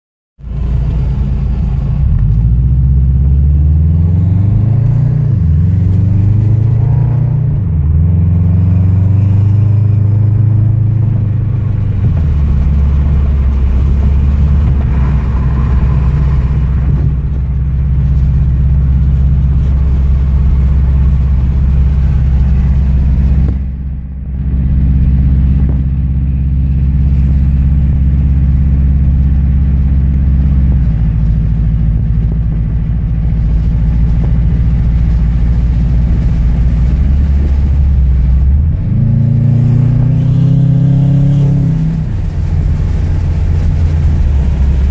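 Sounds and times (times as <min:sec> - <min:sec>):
car engine and exhaust drone: 0:00.4 - 0:44.9.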